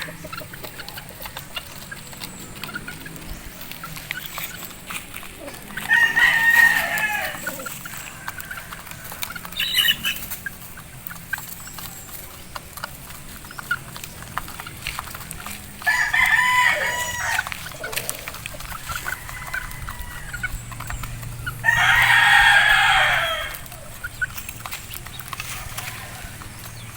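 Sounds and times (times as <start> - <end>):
roosters crowing: 0.0 - 26.9.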